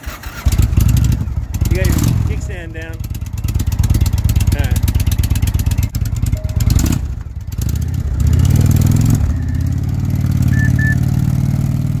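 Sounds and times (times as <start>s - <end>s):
motorcycle pulling away: 0.0s - 12.0s.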